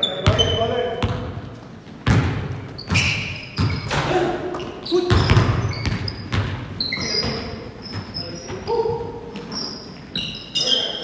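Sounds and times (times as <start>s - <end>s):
sneakers squeaking: 0.0s - 11.0s.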